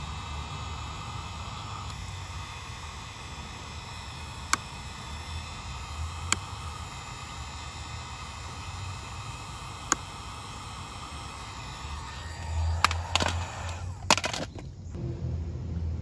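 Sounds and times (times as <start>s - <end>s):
heat gun blowing hiss: 0.0s - 14.4s.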